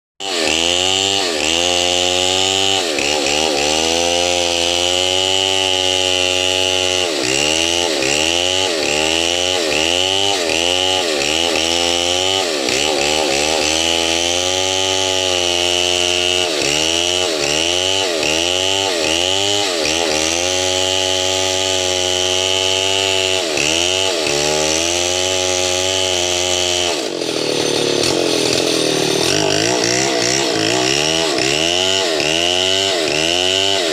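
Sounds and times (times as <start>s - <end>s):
chainsaw cutting wood: 0.2s - 33.9s.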